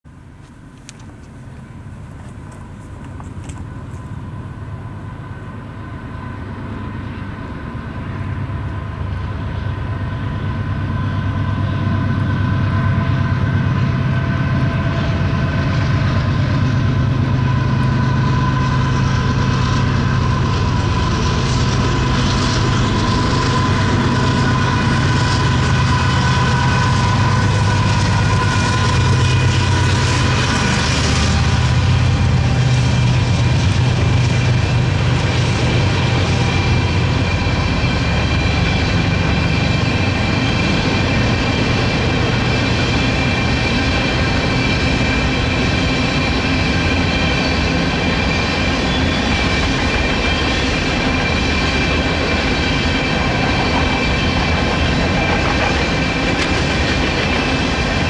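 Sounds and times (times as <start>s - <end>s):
diesel locomotive engines: 0.1s - 58.0s
thin whine: 0.5s - 58.0s.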